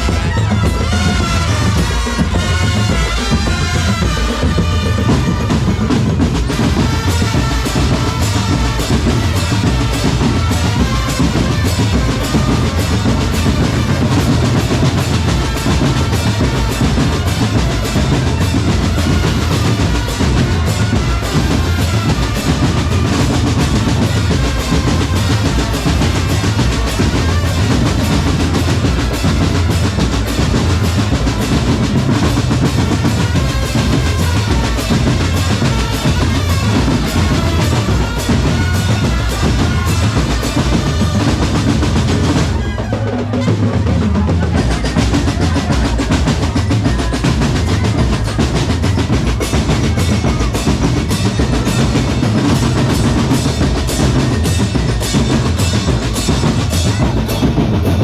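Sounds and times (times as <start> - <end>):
bass drum and snare beating: 0.0 - 58.0
drum corps playing: 0.0 - 58.0.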